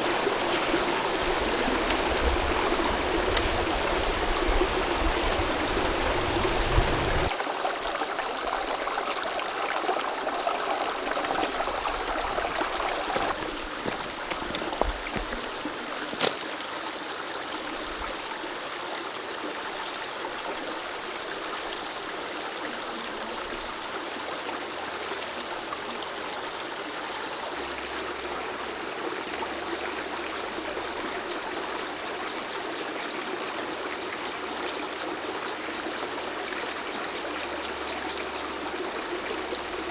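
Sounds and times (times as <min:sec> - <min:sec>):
mountain stream running: 0:00.0 - 0:39.9.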